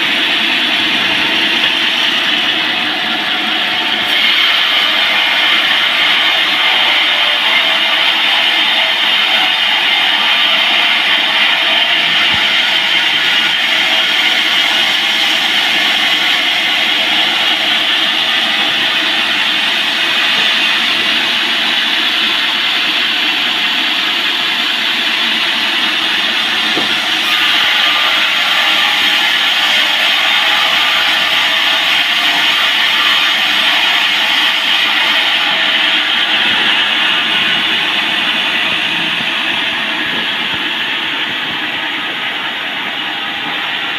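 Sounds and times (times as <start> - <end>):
band saw cutting log: 0.0 - 24.7, 25.4 - 40.7.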